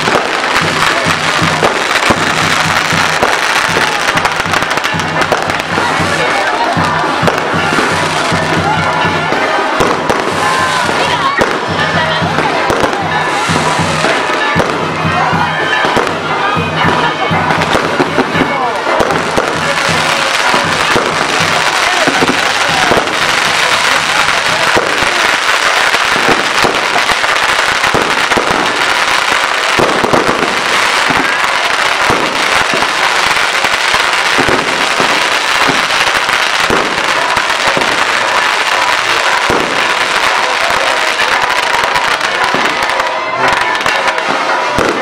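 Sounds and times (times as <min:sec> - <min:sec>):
fireworks crackling and hissing: 0:00.0 - 0:45.0
fireworks pops and bangs: 0:00.0 - 0:45.0.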